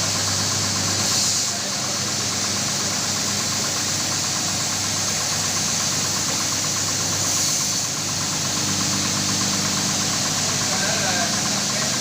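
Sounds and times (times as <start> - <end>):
carpet washing machine hum: 0.0 - 12.0
hiss: 0.0 - 12.0.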